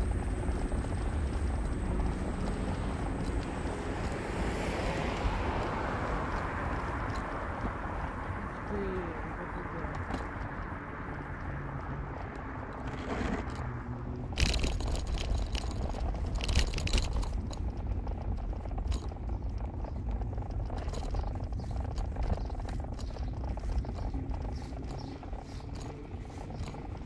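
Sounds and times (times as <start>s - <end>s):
light rattling and clicking: 0.0s - 8.6s, 9.6s - 27.0s
car engine and road noise: 0.0s - 27.0s.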